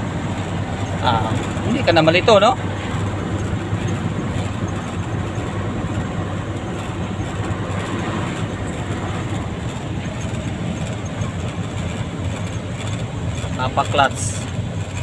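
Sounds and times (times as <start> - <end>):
diesel engine drone: 0.0 - 15.0
road and drivetrain noise: 0.0 - 15.0.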